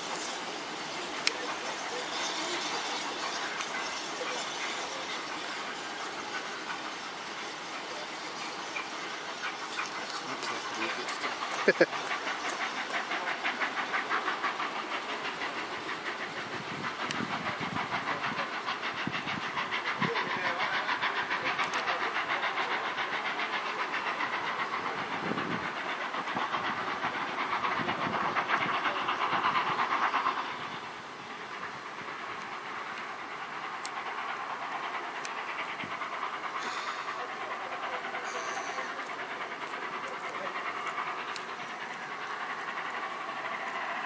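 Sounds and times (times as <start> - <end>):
steam hiss: 0.0 - 44.0
steam locomotive exhaust beats: 0.0 - 44.0.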